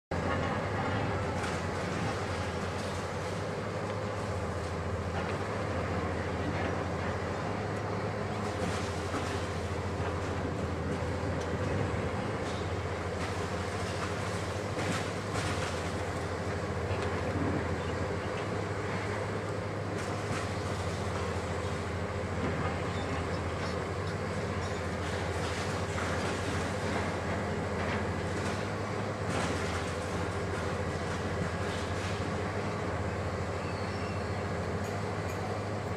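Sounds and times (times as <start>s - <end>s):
excavator engine droning: 0.1s - 35.9s.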